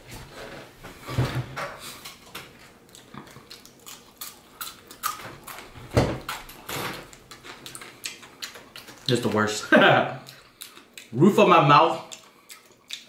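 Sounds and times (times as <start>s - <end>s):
chewing crunchy fried chicken: 1.9s - 13.0s.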